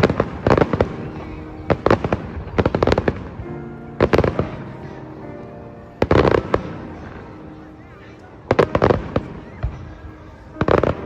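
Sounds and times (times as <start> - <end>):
background music: 0.0 - 11.0
fireworks crackling: 0.0 - 11.0.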